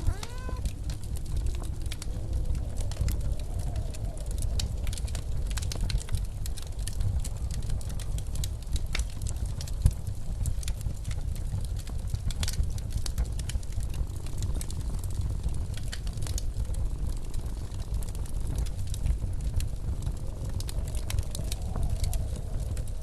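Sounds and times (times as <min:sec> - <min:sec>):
blizzard wind rumble: 0:00.0 - 0:23.0
fire popping: 0:00.0 - 0:23.0
wood fire crackling: 0:00.0 - 0:23.0.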